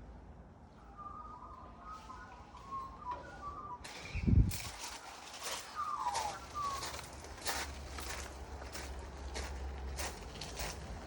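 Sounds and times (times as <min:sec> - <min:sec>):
footsteps walking: 0:01.9 - 0:11.0.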